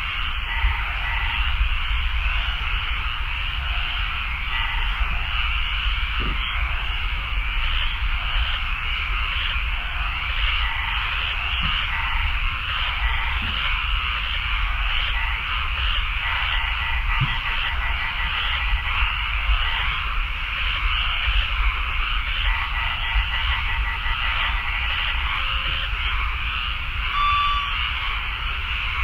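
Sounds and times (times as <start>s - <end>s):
frogs croaking: 0.0s - 29.0s.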